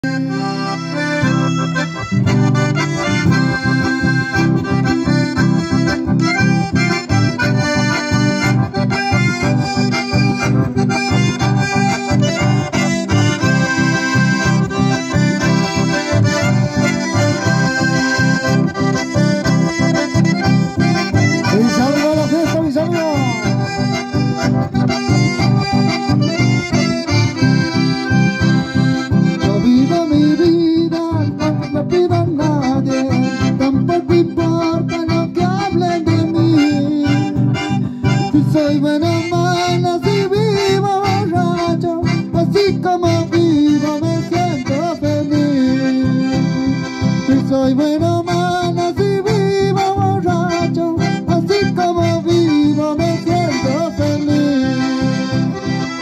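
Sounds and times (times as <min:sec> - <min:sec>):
button accordions: 0:00.0 - 0:56.0
strummed acoustic guitar: 0:00.1 - 0:56.0.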